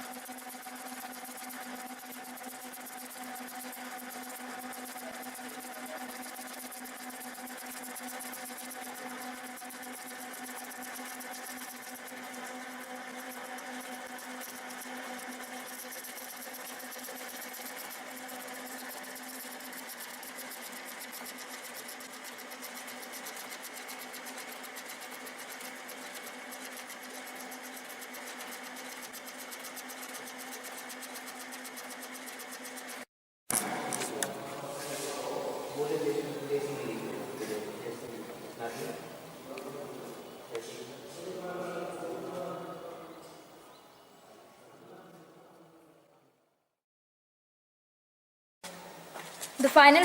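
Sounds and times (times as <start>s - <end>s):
lathe humming and whining: 0.0s - 43.6s.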